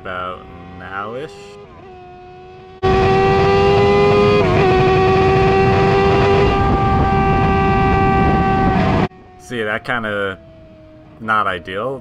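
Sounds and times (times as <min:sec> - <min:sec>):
race car engine droning: 0:00.0 - 0:11.8.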